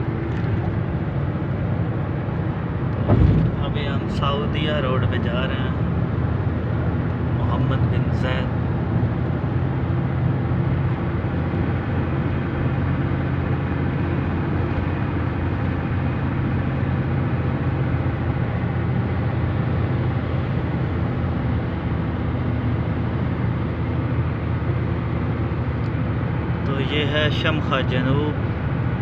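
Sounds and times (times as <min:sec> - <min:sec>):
road and engine drone in car: 0:00.0 - 0:29.0.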